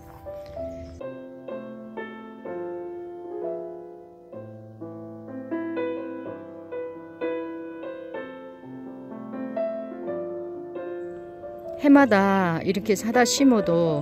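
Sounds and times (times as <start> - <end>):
slow piano tune: 0.0 - 14.0.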